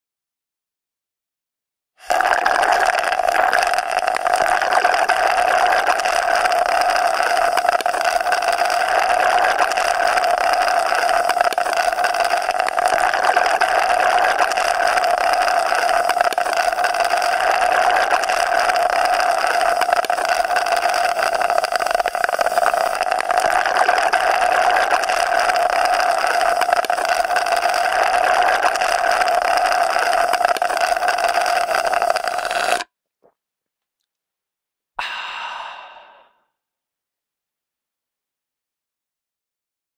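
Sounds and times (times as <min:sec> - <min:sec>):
long slurping sound: 0:02.0 - 0:32.9, 0:35.0 - 0:36.4.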